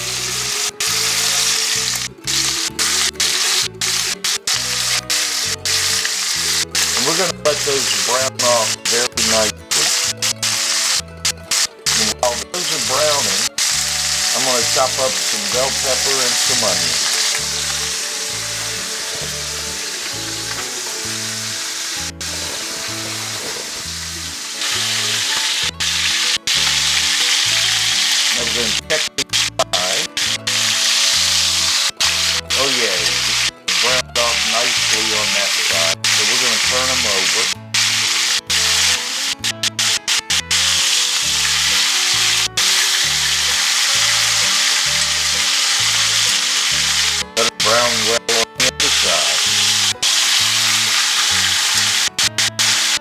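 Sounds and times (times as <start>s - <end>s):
background music with bass: 0.0s - 53.0s
chicken sizzling in a skillet: 0.0s - 53.0s.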